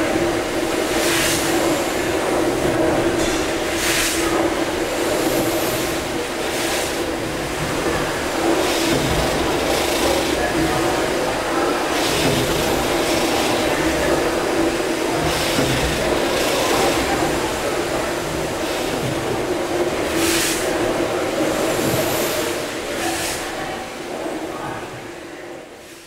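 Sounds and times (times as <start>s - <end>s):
steam engine mechanical rumble: 0.0s - 25.0s
steam hissing: 0.0s - 26.0s.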